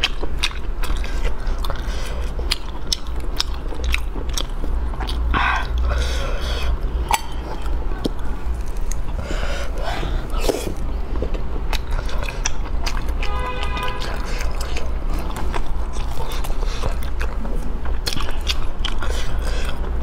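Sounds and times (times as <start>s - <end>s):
chewing and sucking: 0.0s - 20.0s
steady low hum: 0.0s - 20.0s.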